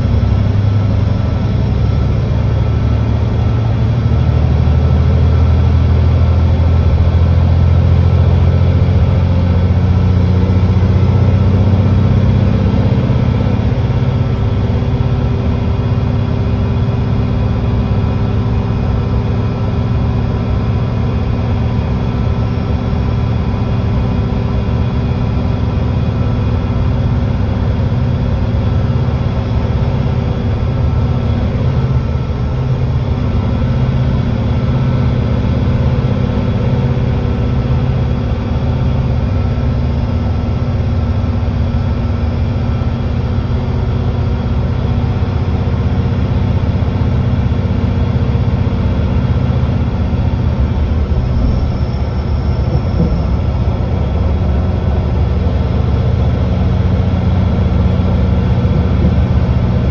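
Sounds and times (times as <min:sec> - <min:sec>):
bus engine driving: 0:00.0 - 0:59.9.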